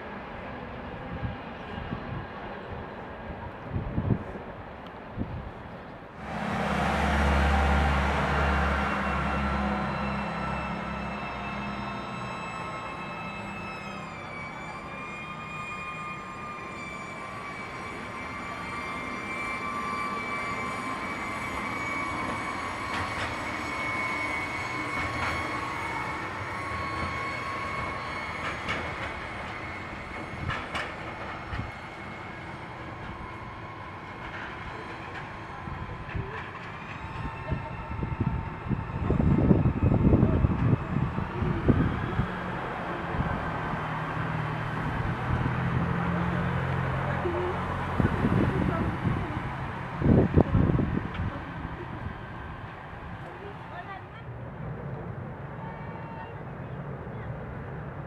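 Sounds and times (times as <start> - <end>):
electric train motor whine: 6.2 - 54.0
wheels clattering on rails: 6.2 - 55.3.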